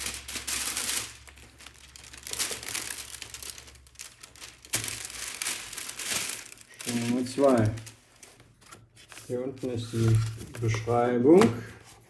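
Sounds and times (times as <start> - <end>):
wrapping paper crinkling: 0.0 - 12.0.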